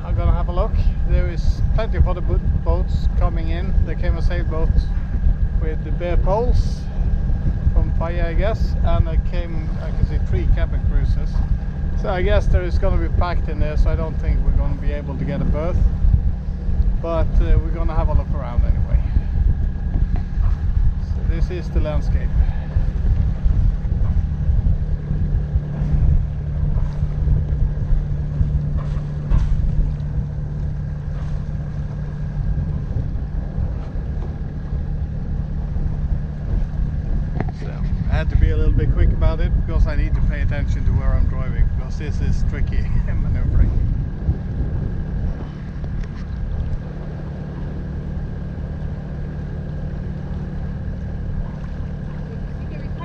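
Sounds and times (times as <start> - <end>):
boat engine running: 0.0 - 53.0
wind buffeting microphone: 0.0 - 53.0.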